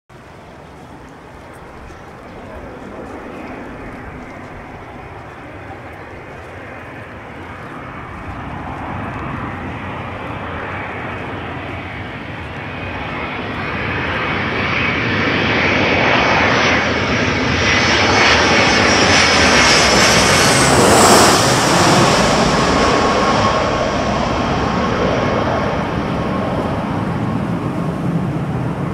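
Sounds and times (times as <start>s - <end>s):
jet airliner passing overhead: 0.1s - 28.9s.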